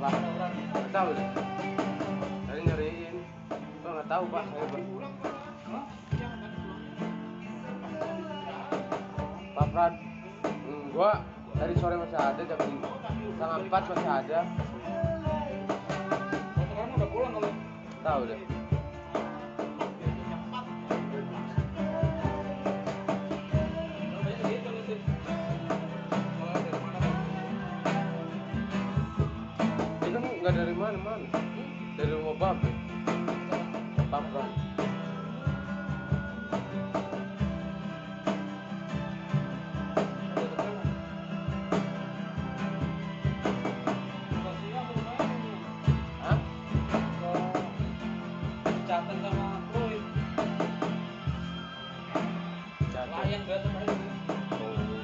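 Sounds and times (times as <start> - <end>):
acoustic guitar: 0.0 - 55.0
cajon beat: 0.0 - 55.0.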